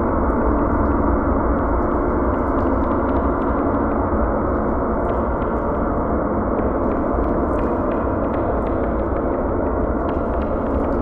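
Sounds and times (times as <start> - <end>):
deep ambient drone: 0.0 - 11.0.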